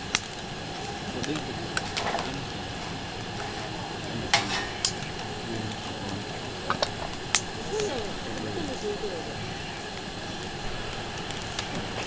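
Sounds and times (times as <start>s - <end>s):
low steady rustle: 0.0s - 12.0s.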